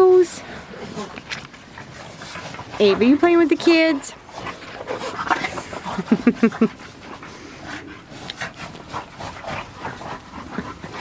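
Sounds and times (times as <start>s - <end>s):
dogs playing: 0.0s - 11.0s.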